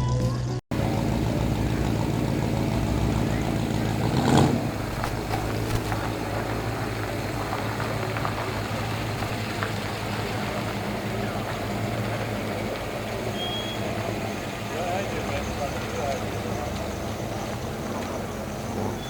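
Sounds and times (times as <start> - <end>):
car engine idling: 0.7 - 19.0.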